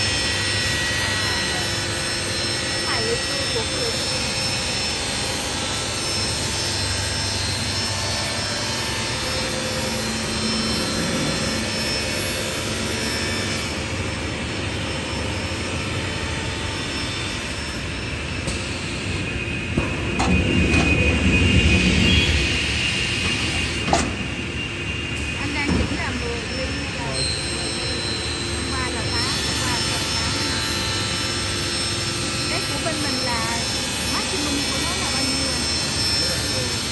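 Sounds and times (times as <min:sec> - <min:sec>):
panel saw running: 0:00.0 - 0:13.8, 0:19.0 - 0:36.9
saw blade whine: 0:00.0 - 0:36.9.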